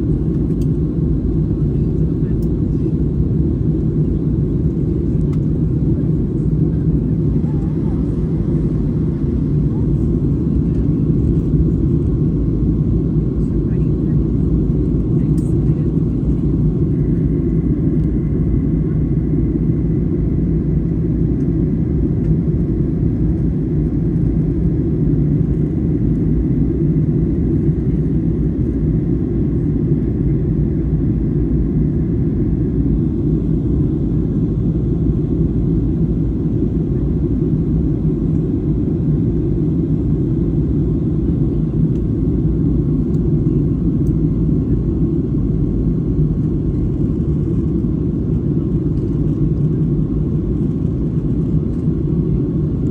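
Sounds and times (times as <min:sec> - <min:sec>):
airplane cabin drone: 0:00.0 - 0:52.9.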